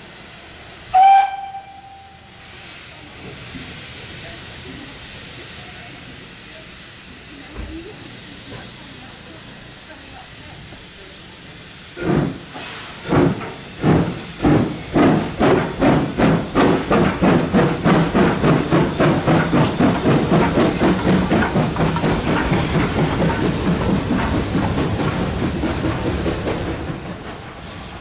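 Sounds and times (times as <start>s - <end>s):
steam locomotive exhaust chuffs: 0.0s - 28.0s.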